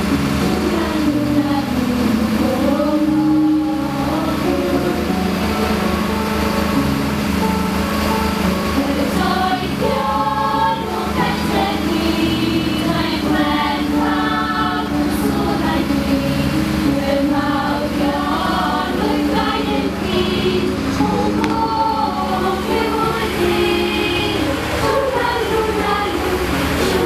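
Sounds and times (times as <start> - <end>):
choir singing: 0.0 - 7.0, 8.4 - 27.0.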